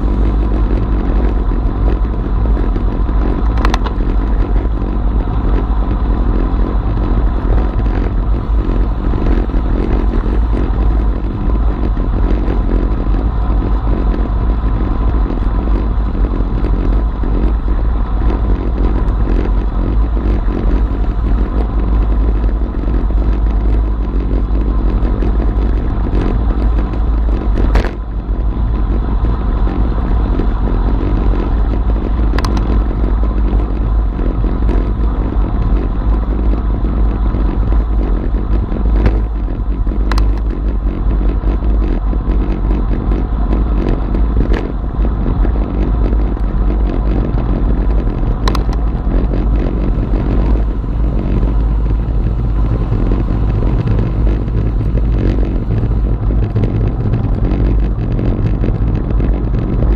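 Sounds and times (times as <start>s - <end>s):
tyre and road noise: 0.0s - 59.9s
wind rushing on microphone: 0.0s - 59.9s.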